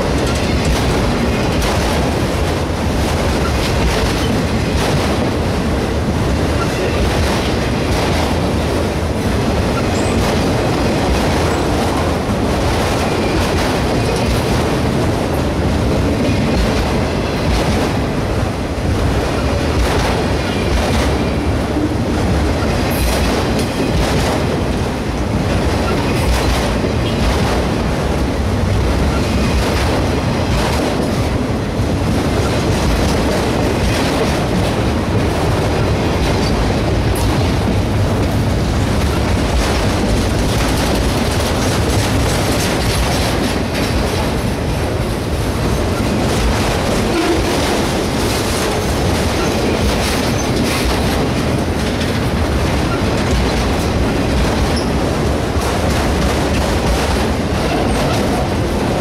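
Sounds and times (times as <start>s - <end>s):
train wheels clicking: 0.0s - 59.0s
train wheels rumbling on rails: 0.0s - 59.0s.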